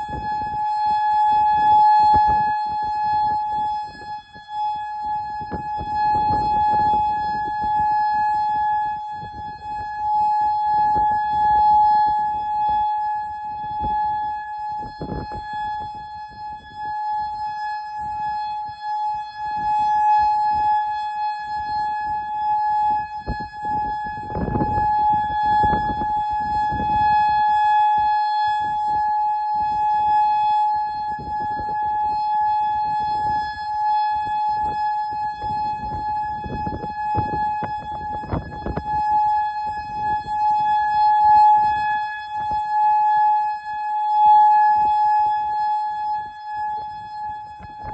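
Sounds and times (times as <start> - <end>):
warning siren steady tone: 0.0 - 47.9.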